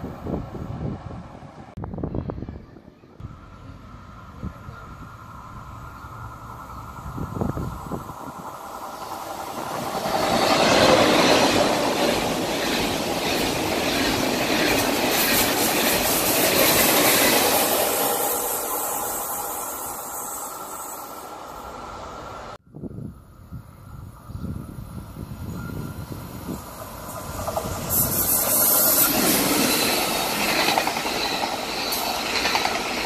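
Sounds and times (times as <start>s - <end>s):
high-speed train passing: 0.0s - 33.0s.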